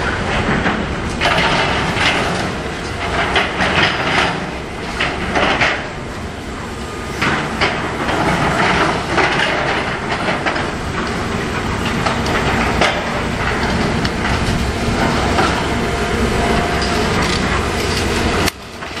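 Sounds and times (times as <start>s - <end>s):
excavator mechanical din: 0.0s - 19.0s.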